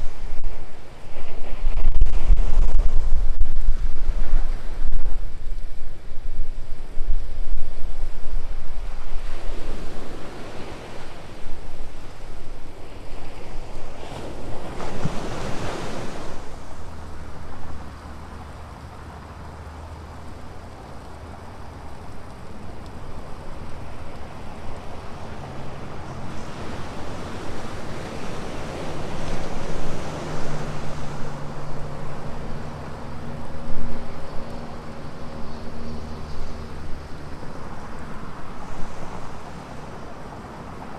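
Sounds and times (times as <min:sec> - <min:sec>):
low steady engine hum: 0:00.0 - 0:40.9
ocean surf breaking: 0:00.0 - 0:40.9
wind buffeting microphone: 0:00.0 - 0:40.9.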